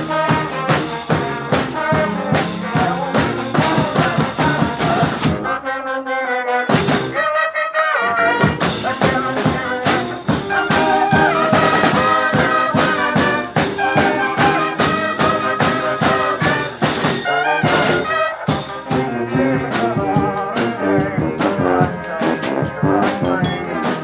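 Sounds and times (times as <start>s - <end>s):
steady drum beat: 0.0s - 5.5s, 6.8s - 7.2s, 8.4s - 24.0s
brass band playing: 0.0s - 24.0s.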